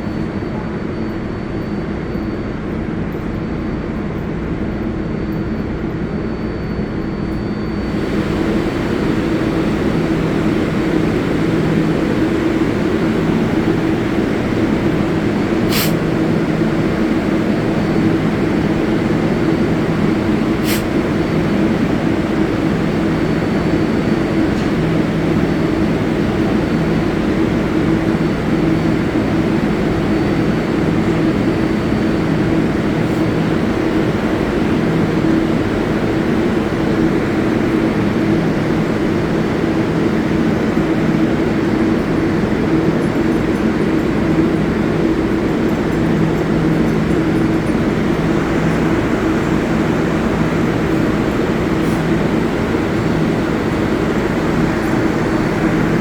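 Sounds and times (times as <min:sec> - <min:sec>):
subway train hum: 0:00.0 - 0:56.0.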